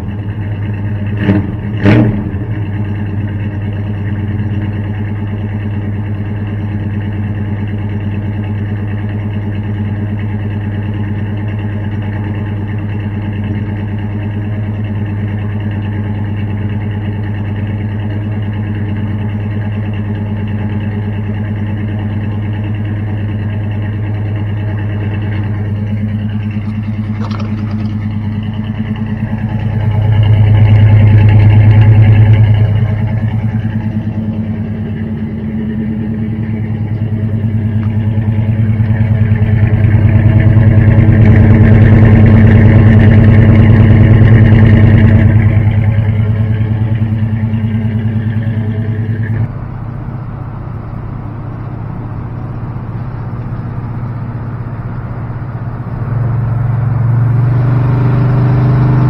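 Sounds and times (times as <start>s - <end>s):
engine and road drone in cab: 0.0s - 59.0s
pickup engine exhaust drone: 0.0s - 59.0s.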